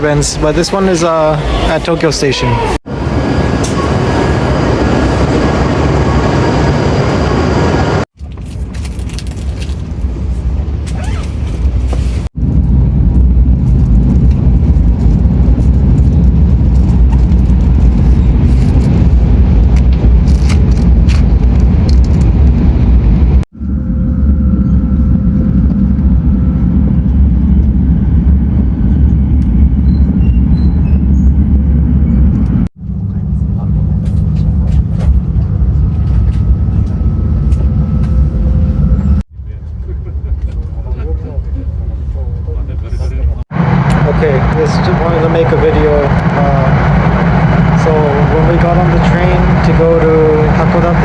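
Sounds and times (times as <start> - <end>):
moving train rumbling: 0.0 - 51.0.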